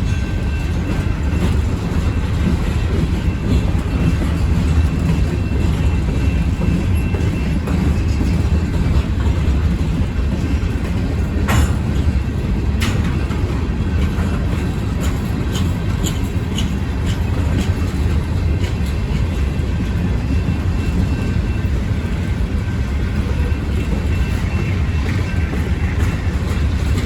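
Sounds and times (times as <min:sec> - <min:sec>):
train wheels rumbling on rail: 0:00.0 - 0:27.0
wheels clicking and squeaking: 0:00.0 - 0:27.0.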